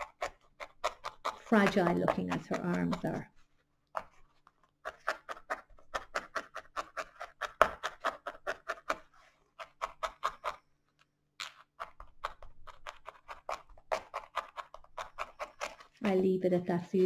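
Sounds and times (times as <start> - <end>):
felting needle stabbing: 0.0 - 3.2, 4.0 - 10.7, 11.4 - 17.0.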